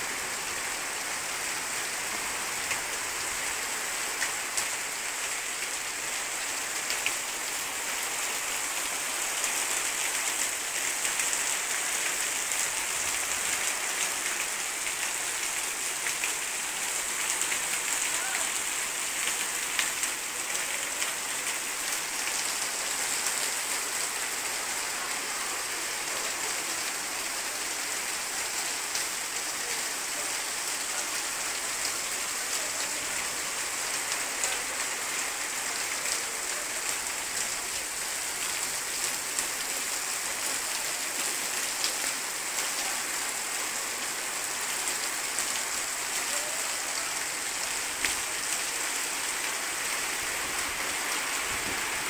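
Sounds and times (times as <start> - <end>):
heavy rain pouring off metal roof: 0.0 - 52.0
water splashing on flooded ground: 0.0 - 52.0.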